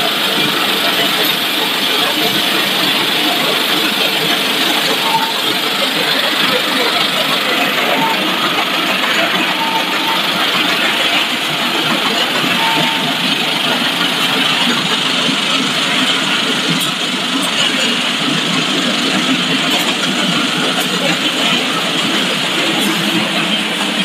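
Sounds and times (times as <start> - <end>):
factory machinery din: 0.0 - 24.0.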